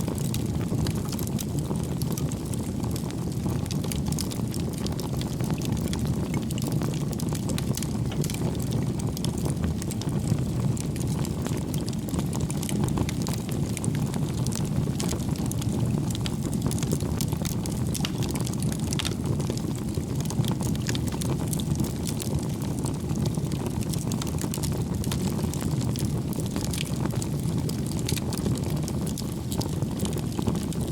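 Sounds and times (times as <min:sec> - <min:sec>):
fire crackling and popping: 0:00.0 - 0:30.9
low rumble of flames: 0:00.0 - 0:30.9.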